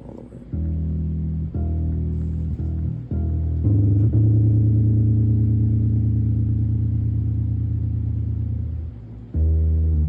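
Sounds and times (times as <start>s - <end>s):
amplified guitar low notes: 0.0s - 10.0s.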